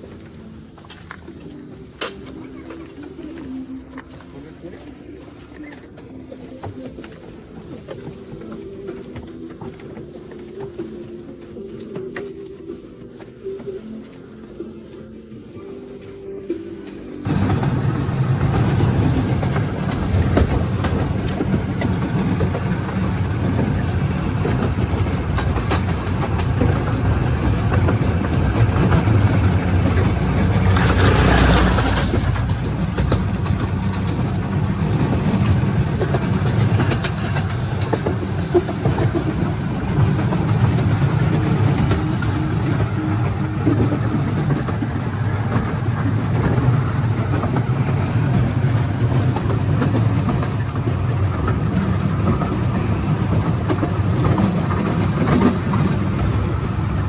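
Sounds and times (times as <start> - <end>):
trolley wheels rumbling on track: 0.0 - 57.0.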